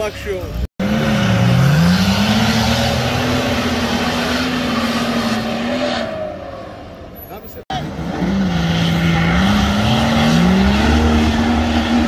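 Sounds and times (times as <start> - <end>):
vehicle engine revving: 0.4 - 6.4, 7.7 - 12.0.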